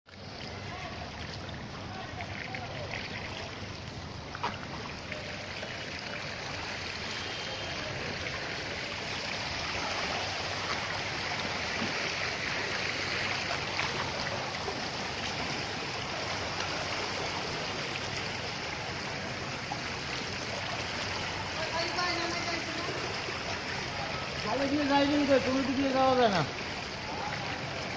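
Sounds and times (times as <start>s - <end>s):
water rushing on flooded street: 0.1s - 27.9s.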